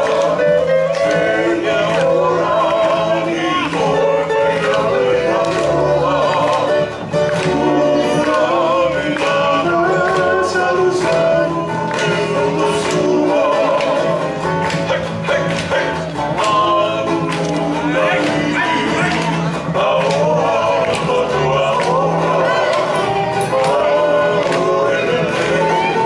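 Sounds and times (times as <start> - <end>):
singing over instrumental accompaniment: 0.0 - 26.0.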